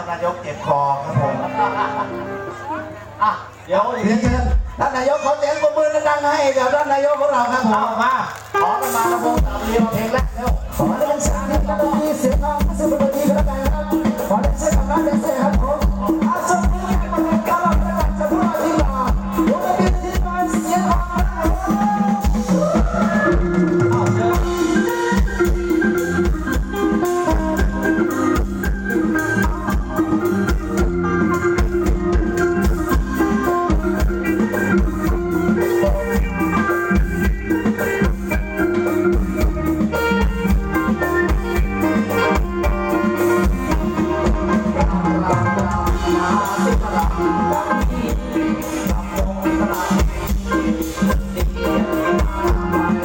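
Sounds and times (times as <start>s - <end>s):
live band playing dance song: 0.0s - 53.0s
drum kit beat: 8.6s - 53.0s.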